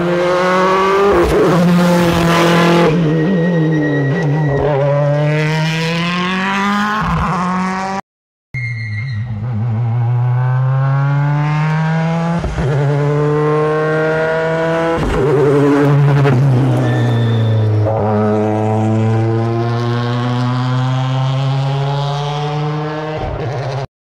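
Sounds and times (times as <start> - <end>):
rally car engine accelerating: 0.0 - 8.0, 9.3 - 23.9.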